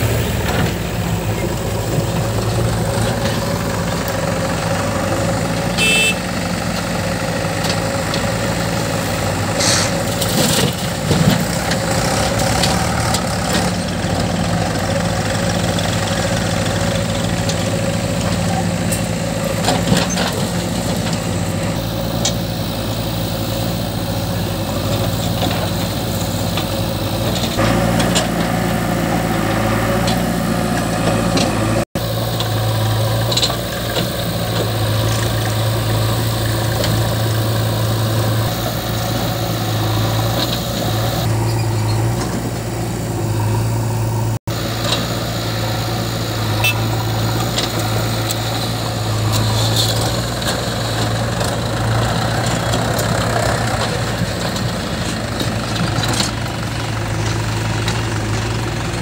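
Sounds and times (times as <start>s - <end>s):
backhoe diesel engine running: 0.0s - 59.0s
tractor engine idling: 0.0s - 59.0s.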